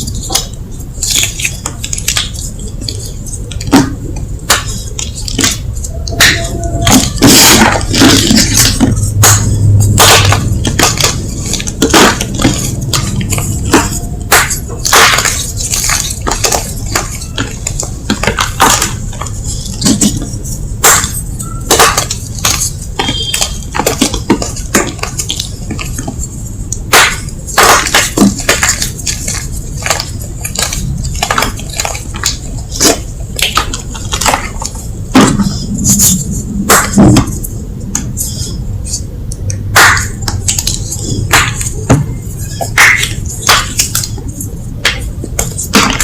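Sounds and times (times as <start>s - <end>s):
chalk lumps crunching: 0.0s - 39.1s.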